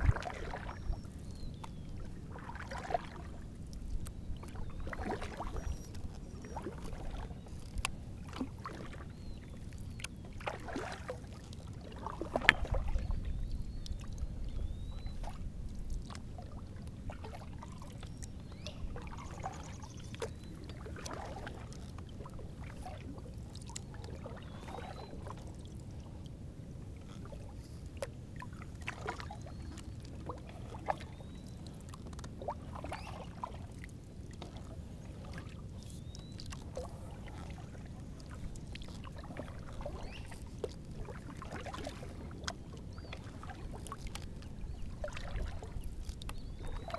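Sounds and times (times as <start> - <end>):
paddle splashing in water: 0.0 - 26.2, 26.9 - 46.9.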